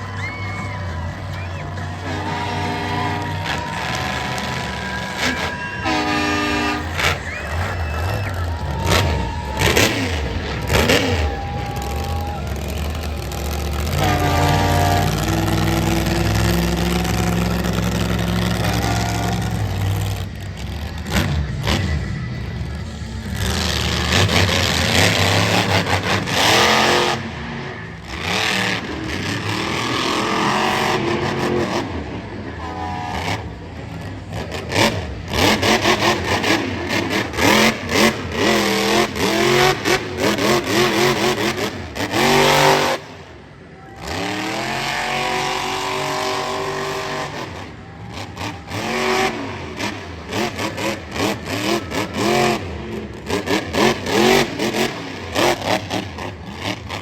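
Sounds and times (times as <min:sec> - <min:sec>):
truck engine revving hard: 0:00.0 - 0:57.0.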